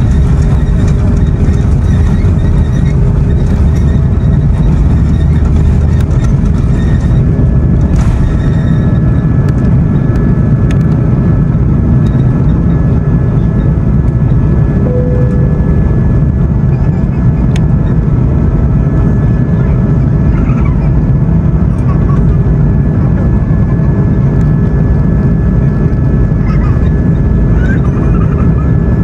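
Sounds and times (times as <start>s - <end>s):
jet engine fan tones: 0.0s - 29.0s
jet engine noise in cabin: 0.0s - 29.0s.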